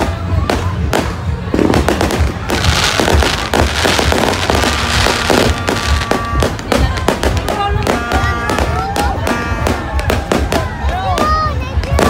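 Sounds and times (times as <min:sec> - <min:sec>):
fireworks bangs: 0:00.0 - 0:12.0
fireworks crackling hiss: 0:00.2 - 0:12.0.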